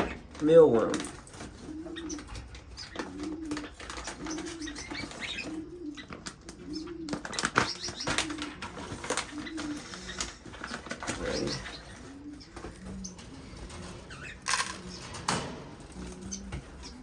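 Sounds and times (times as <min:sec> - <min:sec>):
bird cooing: 0:00.0 - 0:17.0
small birds chirping and clicking: 0:00.0 - 0:17.0.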